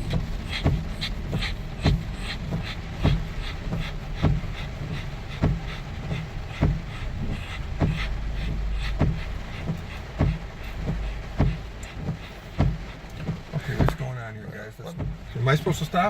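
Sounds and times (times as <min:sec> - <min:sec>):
light ticks: 0:00.0 - 0:14.0
road rumble: 0:00.0 - 0:16.0
windshield wipers thumping: 0:00.0 - 0:16.0.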